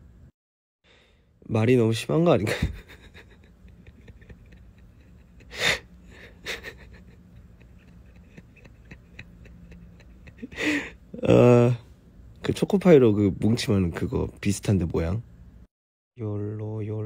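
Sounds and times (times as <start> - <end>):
low steady hum: 0.0 - 0.3, 0.9 - 17.0.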